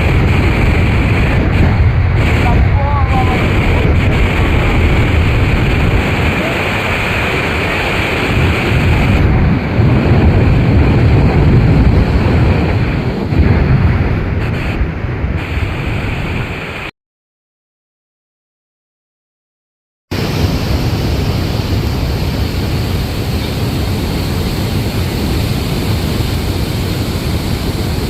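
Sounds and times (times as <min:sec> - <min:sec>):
heavy water rushing: 0:00.0 - 0:16.9, 0:20.1 - 0:28.0
wind buffeting microphone: 0:00.0 - 0:16.9, 0:20.1 - 0:28.0.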